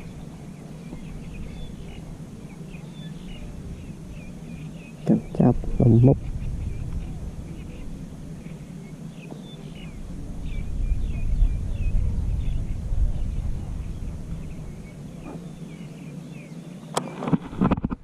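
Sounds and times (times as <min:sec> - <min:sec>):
low rumble: 0:00.0 - 0:08.9, 0:09.7 - 0:15.8
birds chirping: 0:00.0 - 0:18.0.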